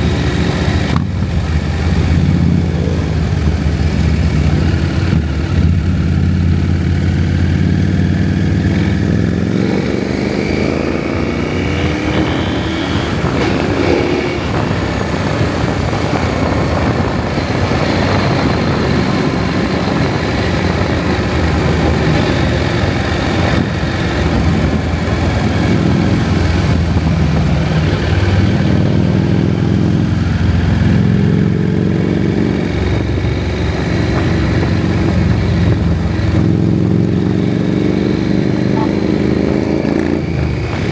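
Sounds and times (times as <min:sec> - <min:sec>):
motorcycle engine under power: 0:00.0 - 0:40.9
wind and road noise: 0:00.0 - 0:40.9.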